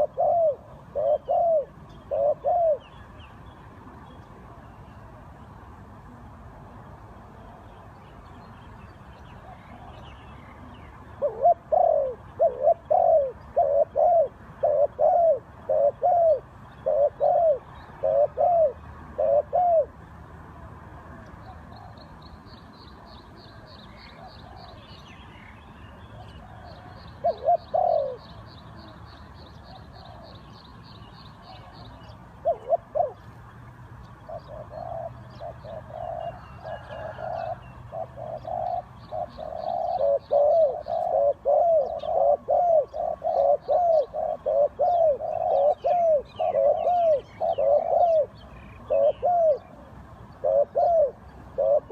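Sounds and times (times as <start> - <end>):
dove cooing: 0.0 - 3.2, 9.4 - 22.1, 23.0 - 25.4, 26.1 - 33.4, 34.1 - 51.9.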